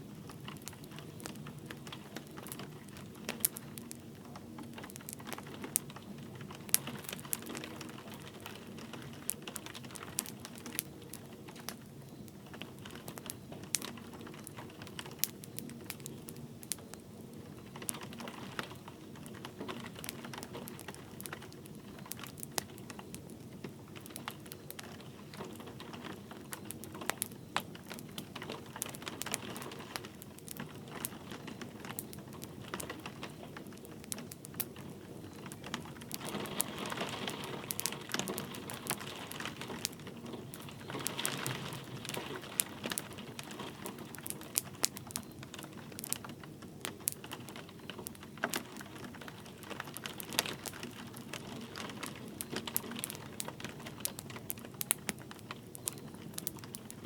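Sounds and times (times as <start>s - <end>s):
light rain pattering: 0.0s - 57.0s
wood fire crackling and popping: 0.0s - 57.0s.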